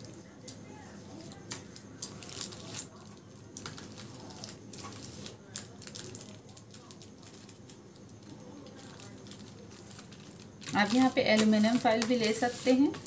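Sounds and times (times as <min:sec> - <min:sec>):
plastic sheet crinkling: 0:01.1 - 0:13.0.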